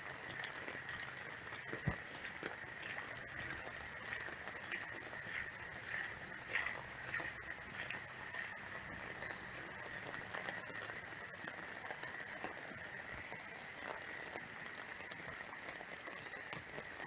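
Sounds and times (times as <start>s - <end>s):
heavy rain falling: 0.0s - 17.0s
raindrops tapping and splashing: 0.0s - 17.0s.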